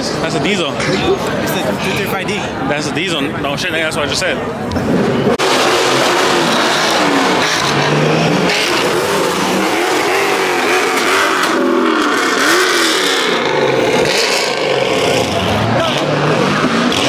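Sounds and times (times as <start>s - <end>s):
car engines revving: 0.0s - 17.0s
crowd noise: 0.0s - 17.0s
traffic noise: 0.0s - 17.0s.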